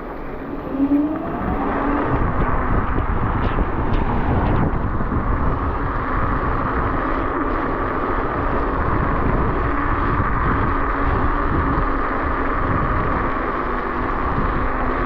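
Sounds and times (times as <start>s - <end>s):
scooter motor and tyres hum: 0.0s - 15.0s
wind buffeting microphone: 0.0s - 15.0s.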